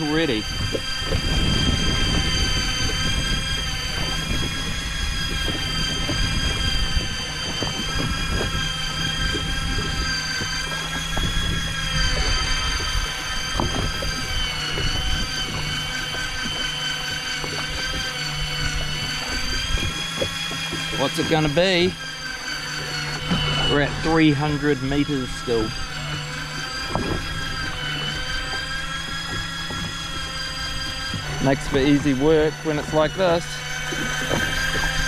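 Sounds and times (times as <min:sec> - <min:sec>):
electric fishing reel motor whine: 0:00.0 - 0:35.0.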